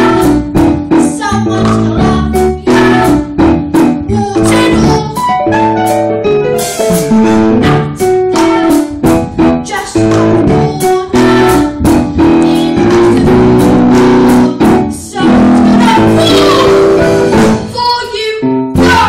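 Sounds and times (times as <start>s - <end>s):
young person singing: 0.0s - 3.2s, 4.0s - 5.3s, 7.5s - 9.0s, 9.6s - 19.0s
piano accompaniment: 0.0s - 19.0s.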